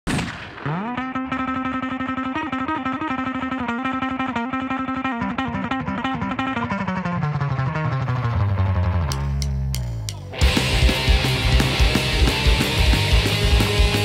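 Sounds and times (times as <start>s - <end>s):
distorted electric guitar picking: 0.7s - 14.0s.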